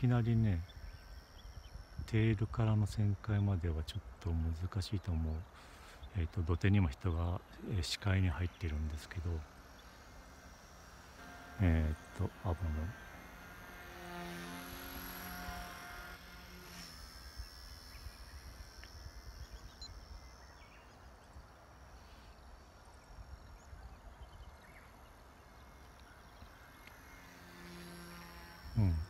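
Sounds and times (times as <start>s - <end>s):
toy helicopter rotor whining: 0.0s - 3.3s, 7.4s - 29.0s.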